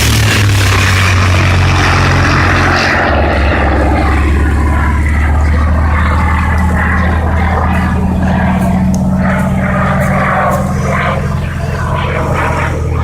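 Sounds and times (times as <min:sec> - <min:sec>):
propeller plane engine in flight: 0:00.0 - 0:13.0.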